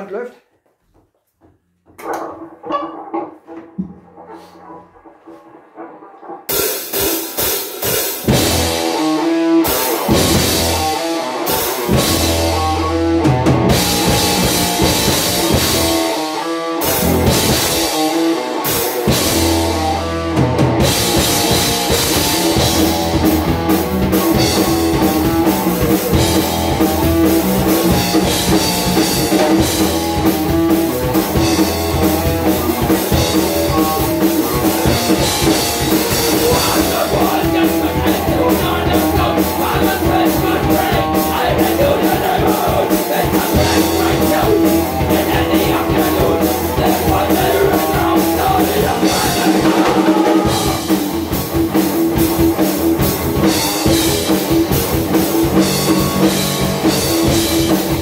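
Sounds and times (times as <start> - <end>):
metal band playing live: 2.0 - 58.0.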